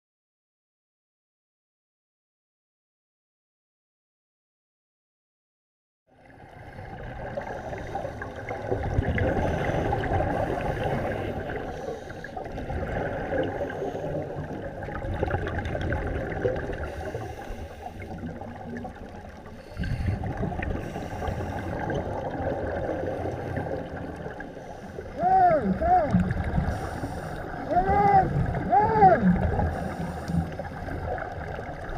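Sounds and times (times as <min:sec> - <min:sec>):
underwater bubbling and regulator breathing: 0:06.2 - 0:31.9.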